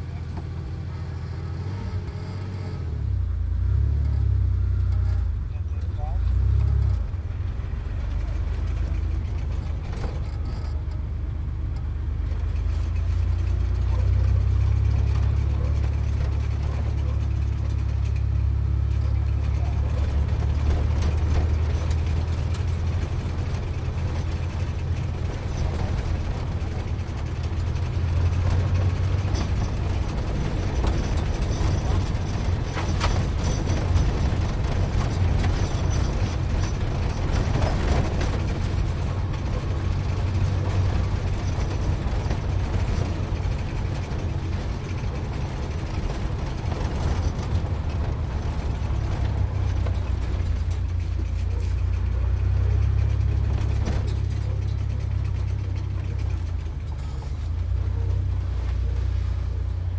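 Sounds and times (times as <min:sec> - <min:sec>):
sports car engine rumbling: 0:00.0 - 0:59.9.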